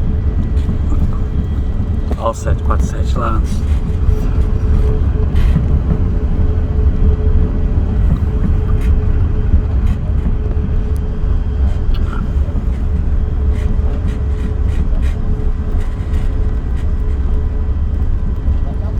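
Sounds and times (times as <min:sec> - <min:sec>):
airplane cabin rumble: 0:00.0 - 0:18.9.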